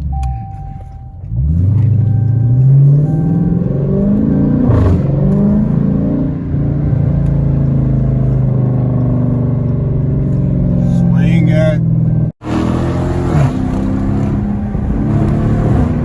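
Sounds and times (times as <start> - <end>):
car exhaust accelerating: 0.0 - 16.0.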